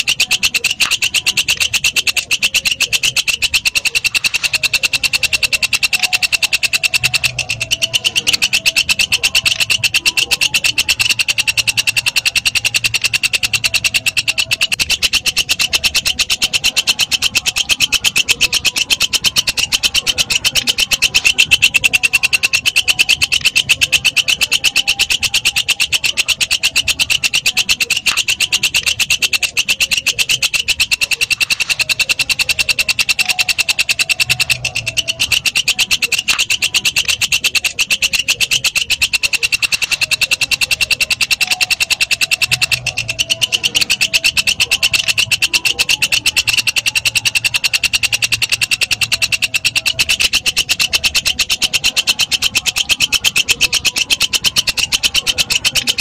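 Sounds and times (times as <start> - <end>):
katydid stridulating: 0.0 - 56.0.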